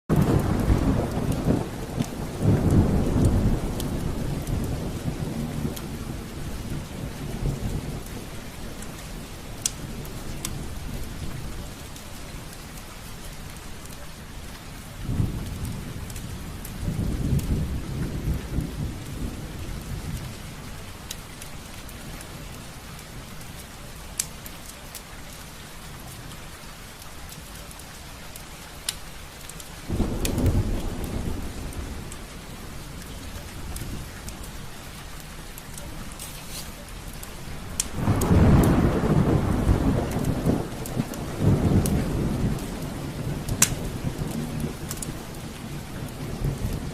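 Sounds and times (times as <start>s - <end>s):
rain on a window: 0.1s - 46.9s.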